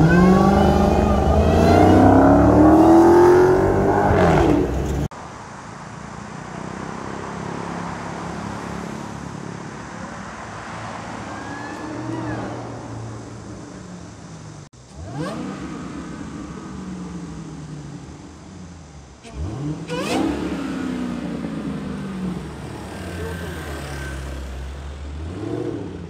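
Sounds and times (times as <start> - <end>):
car engine accelerating hard: 0.0 - 5.1, 6.5 - 26.0
cars passing: 0.0 - 26.0
city traffic noise: 0.0 - 26.0.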